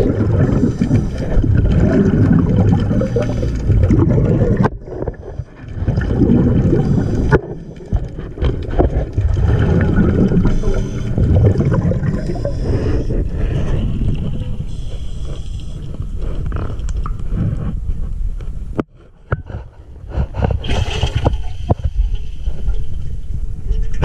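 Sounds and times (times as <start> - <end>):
gurgling water: 0.0 - 18.8, 20.1 - 24.0
muffled underwater rumble: 0.0 - 24.0.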